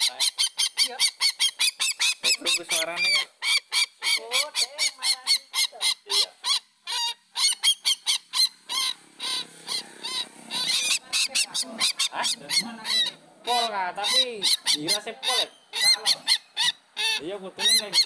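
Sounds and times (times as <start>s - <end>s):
bird honking call: 0.0s - 18.0s.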